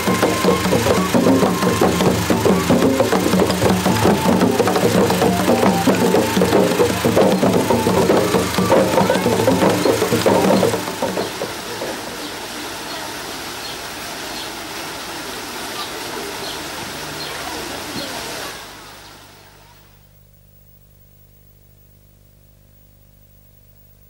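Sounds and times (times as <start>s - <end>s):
fountain water splashing: 0.0s - 19.9s.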